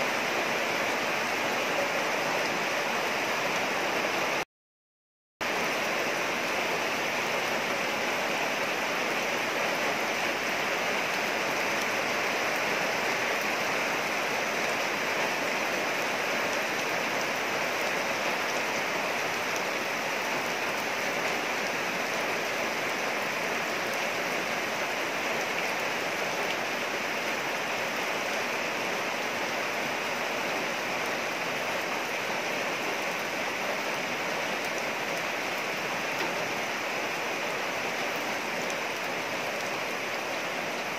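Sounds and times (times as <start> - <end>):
rain on leaves and ground: 0.0 - 4.4, 5.4 - 40.9.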